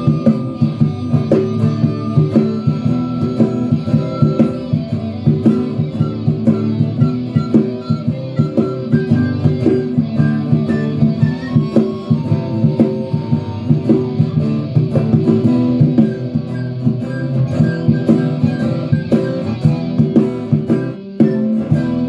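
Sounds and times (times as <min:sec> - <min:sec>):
guitar band playing: 0:00.0 - 0:22.0.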